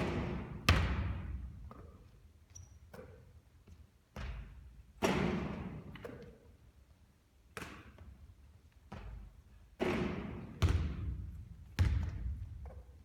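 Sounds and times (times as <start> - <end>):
basketball bouncing with echo: 0.0 - 6.5, 7.4 - 13.0.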